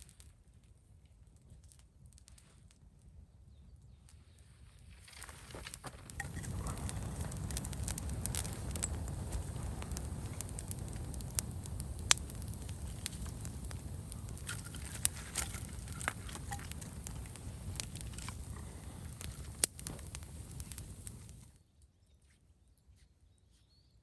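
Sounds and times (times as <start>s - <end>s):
campfire crackling and popping: 0.0s - 21.6s.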